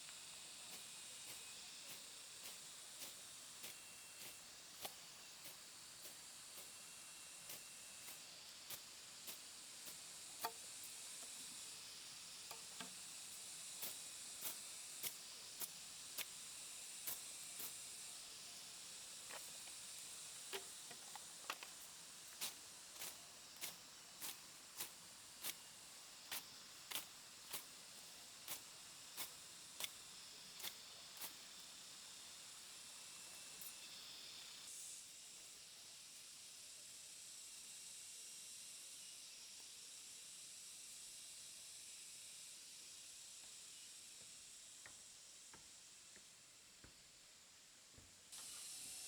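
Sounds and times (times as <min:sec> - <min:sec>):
steady high hiss: 0:00.0 - 0:49.0.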